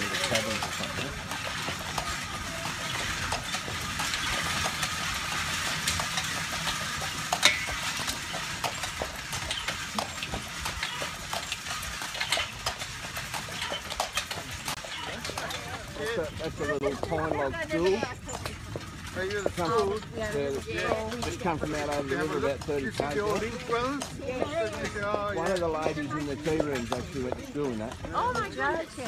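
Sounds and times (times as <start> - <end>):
carriage wheels rolling: 0.0 - 29.0
harness chains clinking: 0.0 - 29.0
horse hooves clopping on road: 0.0 - 29.0.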